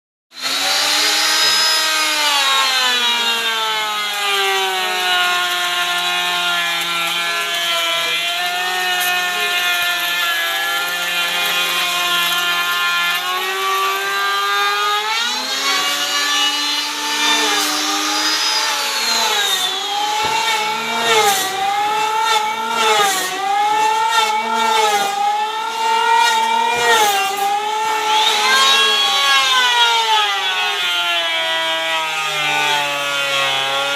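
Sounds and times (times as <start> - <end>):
power saw cutting wood: 0.3 - 33.9.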